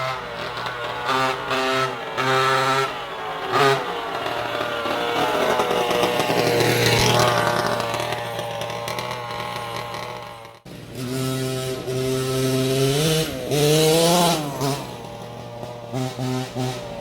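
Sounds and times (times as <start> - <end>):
rc car engine revving: 0.0 - 17.0.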